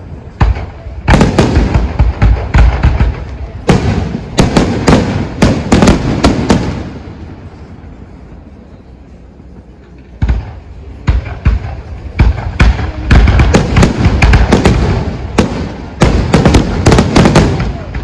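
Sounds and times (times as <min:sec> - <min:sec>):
fireworks bursting: 0:00.0 - 0:07.8, 0:10.1 - 0:18.0.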